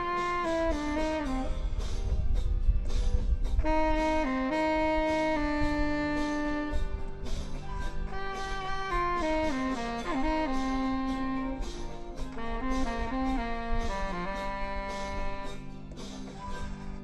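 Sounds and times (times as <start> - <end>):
saxophone melody: 0.0 - 2.6, 3.4 - 17.0
accompaniment track: 0.0 - 17.0.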